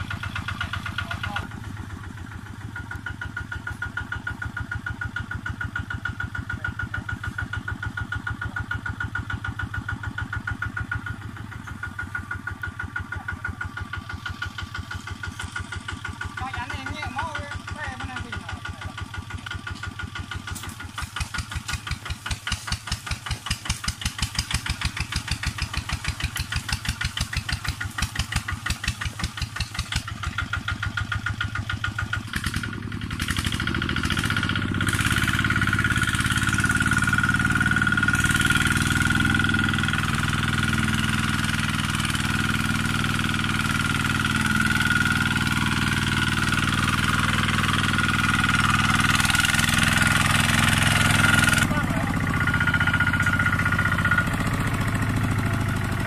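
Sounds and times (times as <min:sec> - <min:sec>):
diesel tractor engine chugging: 0:00.0 - 0:56.0.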